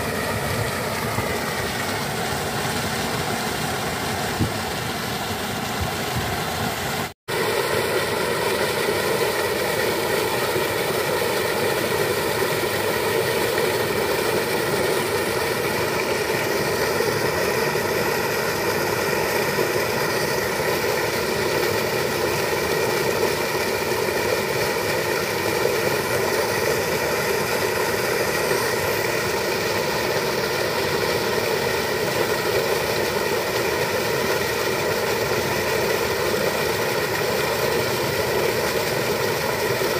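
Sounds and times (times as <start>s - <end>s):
slurry gushing from pipe: 0.0s - 39.9s.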